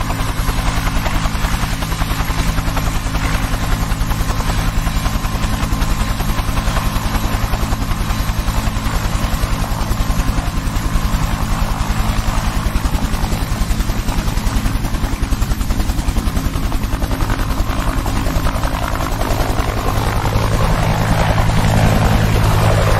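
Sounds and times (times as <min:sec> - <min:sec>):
helicopter rotor chop: 0:00.0 - 0:22.9.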